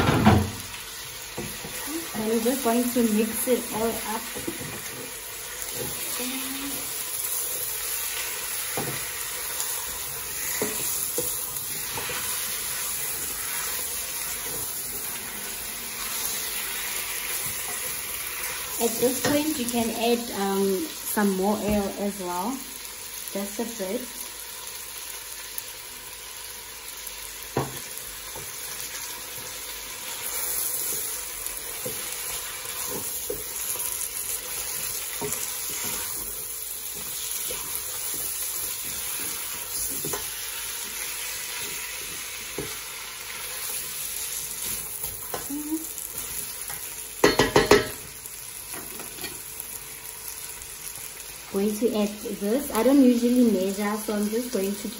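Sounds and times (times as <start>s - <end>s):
meat sizzling in oil: 0.0s - 54.9s.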